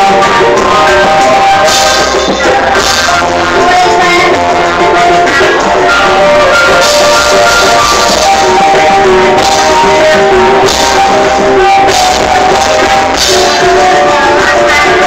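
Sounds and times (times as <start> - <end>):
busking guitar music: 0.0 - 15.0.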